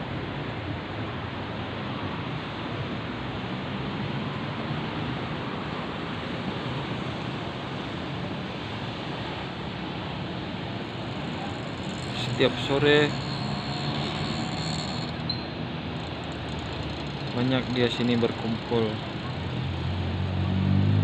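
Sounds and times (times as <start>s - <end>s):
road traffic roar: 0.0s - 21.0s.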